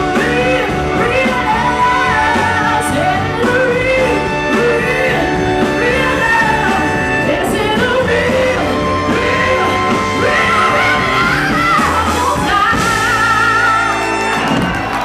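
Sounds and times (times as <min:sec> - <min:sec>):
woman singing: 0:00.0 - 0:14.6
soul band playing: 0:00.0 - 0:15.0.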